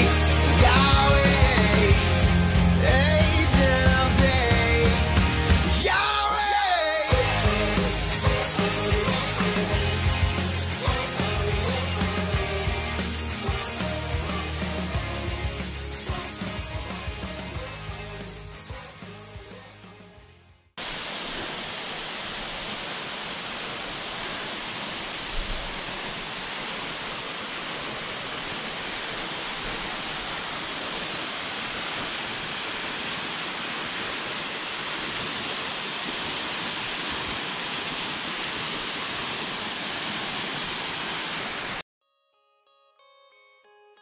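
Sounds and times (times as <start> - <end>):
waterfall rushing: 0.0 - 18.9, 20.8 - 41.8.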